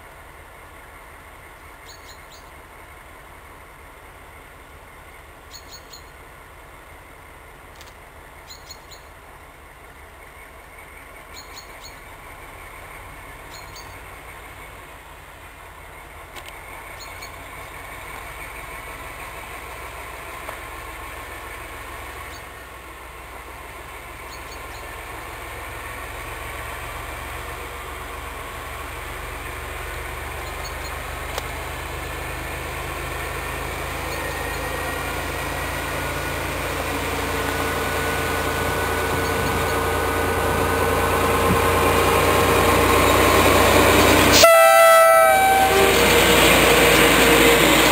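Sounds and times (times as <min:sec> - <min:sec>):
diesel locomotive engine rumble: 0:00.0 - 0:47.9.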